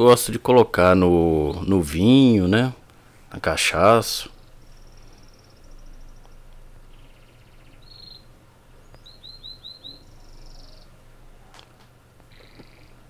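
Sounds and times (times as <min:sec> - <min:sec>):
small birds trilling and chirping: 0:00.0 - 0:02.7, 0:03.3 - 0:13.0.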